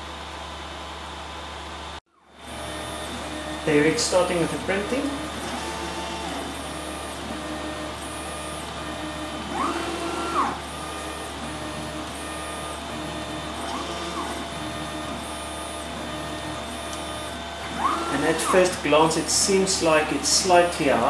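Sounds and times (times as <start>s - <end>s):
stepper motors whining: 2.0s - 21.0s.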